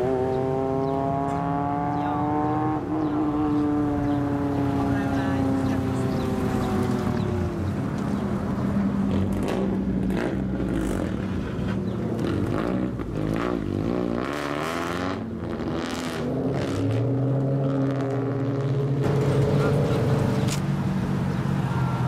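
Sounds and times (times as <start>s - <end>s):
car accelerating away: 0.0s - 22.0s
car engines revving: 0.0s - 22.0s.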